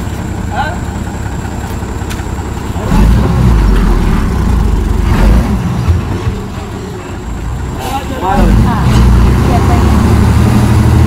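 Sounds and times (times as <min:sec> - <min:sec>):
heavy truck engine revving: 0:00.0 - 0:11.0.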